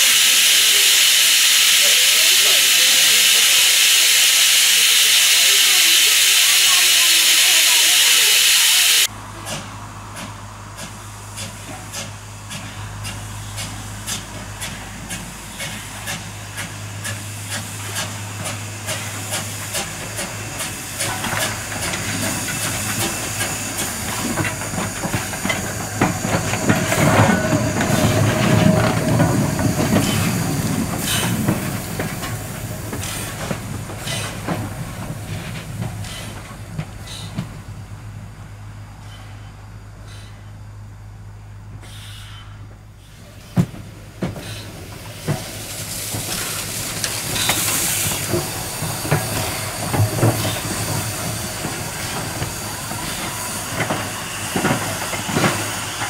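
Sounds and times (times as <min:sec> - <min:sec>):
steam hissing: 0:00.0 - 0:09.1, 0:11.4 - 0:36.4, 0:41.8 - 0:56.0
steam locomotive exhaust chuffs: 0:00.0 - 0:56.0.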